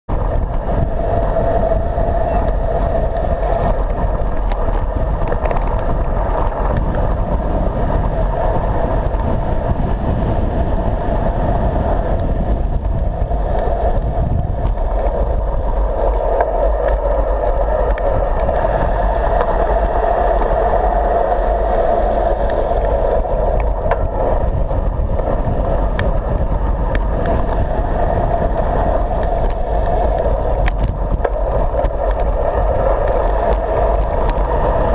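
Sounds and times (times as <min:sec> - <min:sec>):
tyres humming on asphalt: 0:00.1 - 0:34.9
wind rushing over camera: 0:00.1 - 0:34.9.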